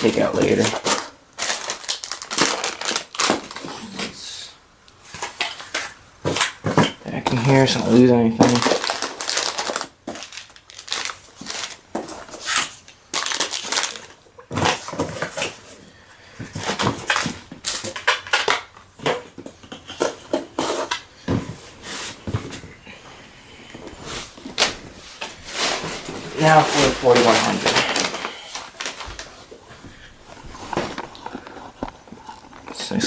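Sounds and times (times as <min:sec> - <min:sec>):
plastic and cardboard rustling: 0:00.0 - 0:33.0.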